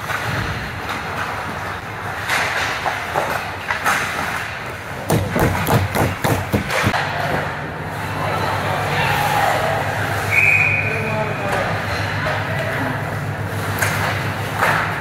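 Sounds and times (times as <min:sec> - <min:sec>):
hockey sticks and puck clattering: 0:00.0 - 0:15.0.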